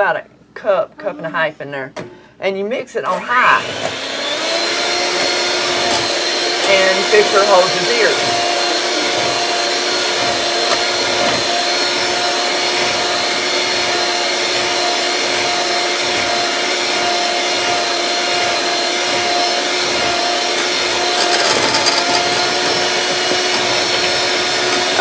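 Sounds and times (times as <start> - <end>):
electric mixer whine: 3.1 - 25.0.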